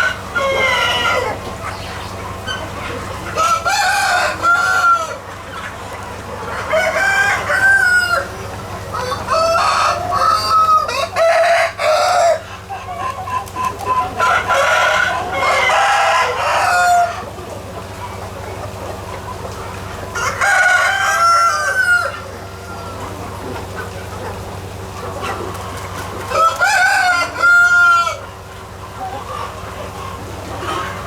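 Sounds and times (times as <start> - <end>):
roosters crowing: 0.0 - 31.0.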